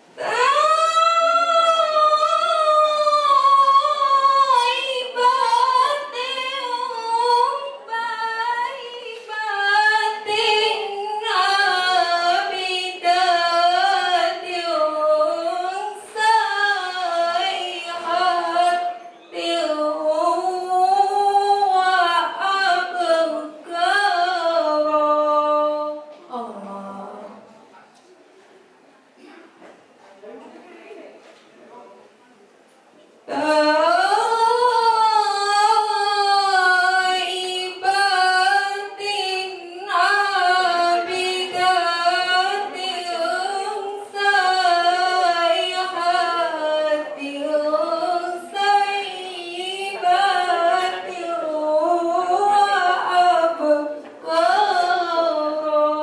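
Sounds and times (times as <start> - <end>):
woman reciting melodically: 0.0 - 27.7, 33.2 - 56.0.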